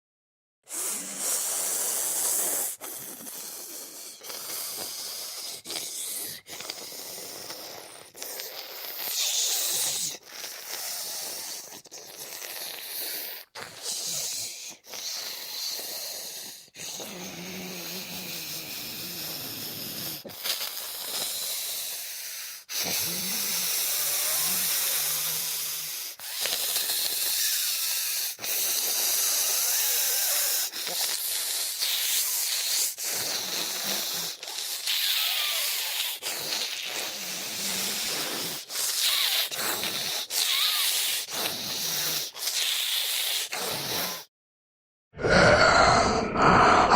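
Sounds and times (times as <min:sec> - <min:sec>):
raspy hissing breaths and wheezes: 0:00.6 - 0:44.3, 0:45.2 - 0:46.9.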